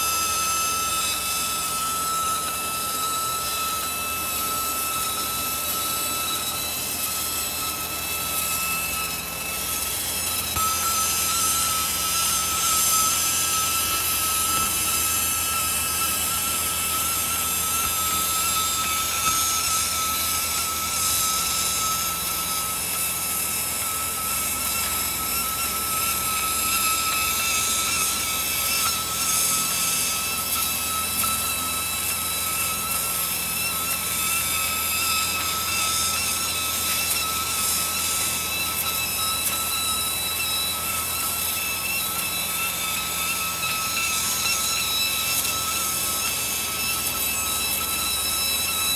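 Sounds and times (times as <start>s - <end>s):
laser cutting hiss: 8.4s - 48.9s.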